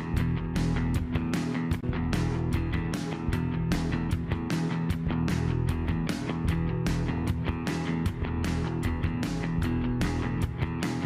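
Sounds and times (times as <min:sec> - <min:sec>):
steady drum beat: 0:00.0 - 0:11.0
strummed guitar: 0:00.0 - 0:11.0.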